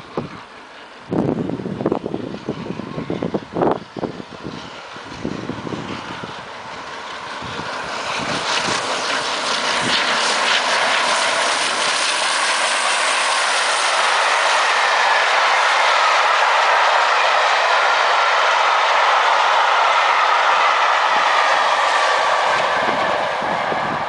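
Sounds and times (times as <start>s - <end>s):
steam train passing at speed: 0.0s - 24.0s
wheels rushing on rails: 0.0s - 24.0s.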